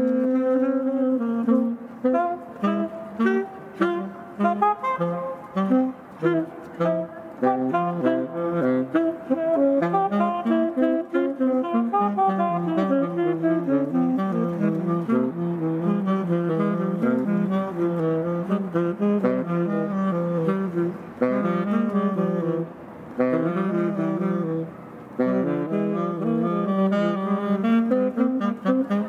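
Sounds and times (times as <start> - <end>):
jazz saxophone music: 0.0 - 29.0.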